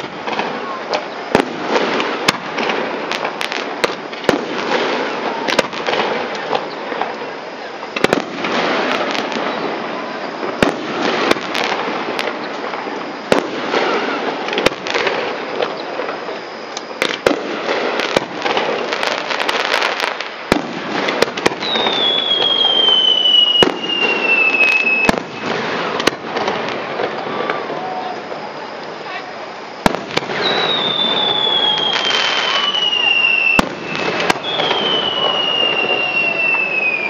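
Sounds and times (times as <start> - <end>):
descending firework whistle: 0.0 - 37.0
fireworks bangs: 0.0 - 37.0
fireworks crackling: 0.0 - 37.0.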